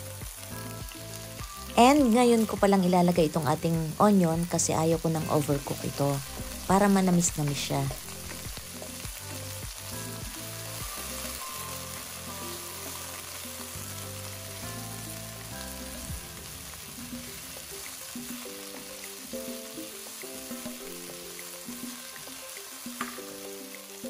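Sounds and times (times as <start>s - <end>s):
background music with held notes: 0.0s - 24.0s
food sizzling in a pan: 0.0s - 24.0s.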